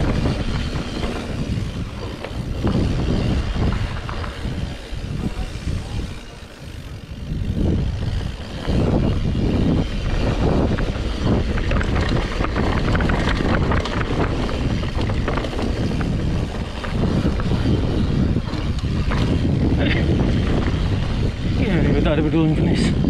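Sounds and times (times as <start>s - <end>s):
bike rattling: 0.0s - 23.0s
wind buffeting microphone: 0.0s - 23.0s.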